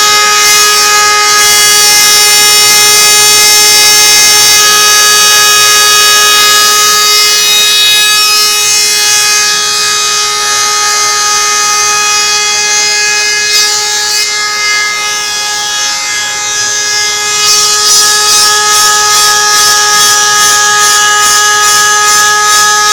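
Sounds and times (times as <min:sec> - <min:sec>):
spindle high-pitched whine: 0:01.9 - 0:22.3.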